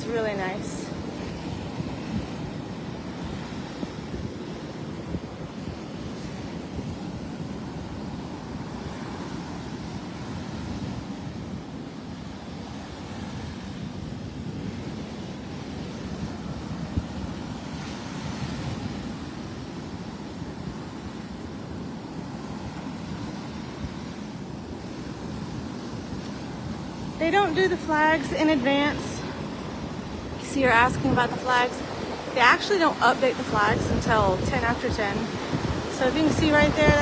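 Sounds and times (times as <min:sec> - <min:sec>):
surf washing onto beach: 0:00.0 - 0:37.0
wind rumbling on microphone: 0:00.0 - 0:37.0.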